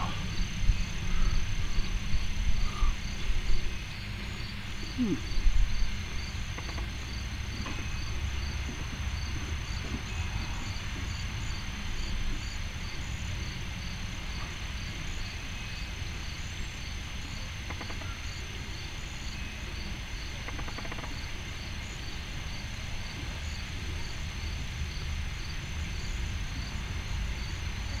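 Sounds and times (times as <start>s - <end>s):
crickets chirping: 0.0s - 28.0s
high insect trill: 0.0s - 28.0s.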